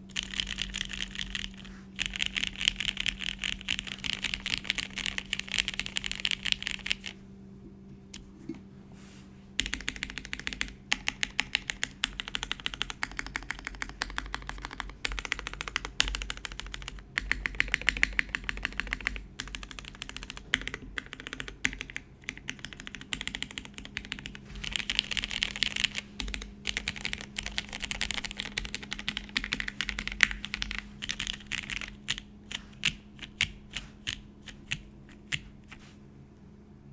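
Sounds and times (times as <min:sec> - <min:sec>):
mechanical keyboard typing clacks: 0:00.1 - 0:07.1, 0:09.6 - 0:35.4.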